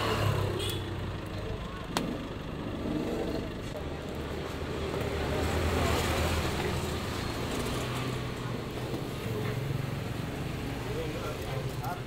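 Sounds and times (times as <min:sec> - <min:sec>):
road traffic going past: 0:00.0 - 0:12.0.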